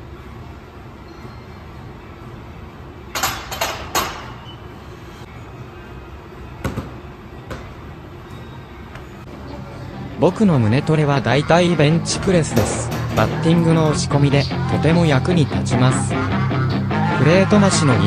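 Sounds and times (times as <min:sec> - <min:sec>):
gym background hum: 0:00.0 - 0:18.0.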